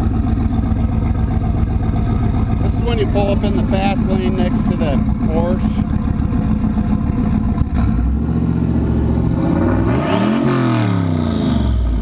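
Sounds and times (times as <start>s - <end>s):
truck engine running and revving: 0.0s - 12.0s.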